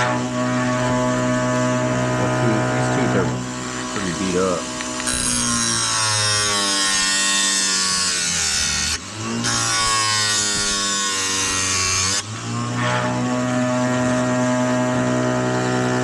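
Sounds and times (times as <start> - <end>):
chain sharpener grinding: 0.0 - 16.0
motor humming: 0.0 - 16.0.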